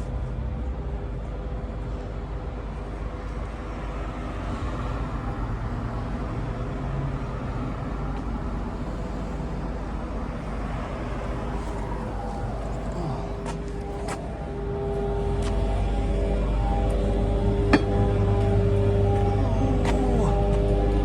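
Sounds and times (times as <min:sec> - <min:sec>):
road noise: 0:00.0 - 0:21.0
vehicle hum: 0:00.0 - 0:21.0.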